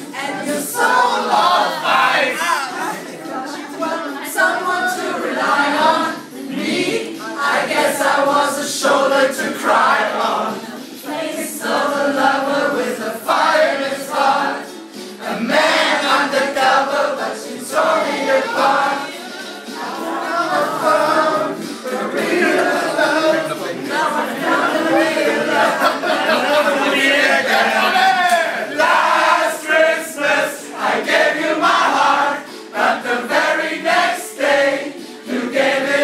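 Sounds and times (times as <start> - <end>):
group singing without instruments: 0.0 - 36.0.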